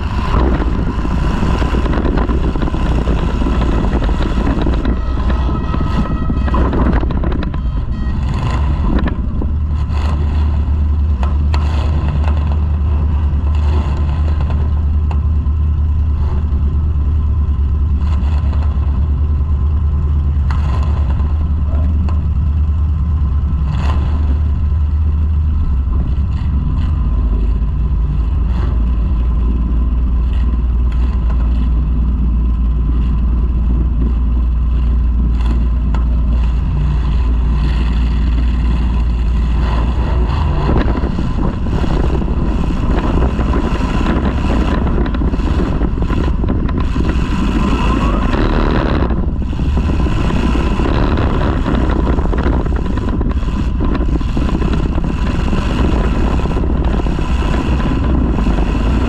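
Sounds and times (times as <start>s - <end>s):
car engine idling loudly: 0.0s - 59.0s.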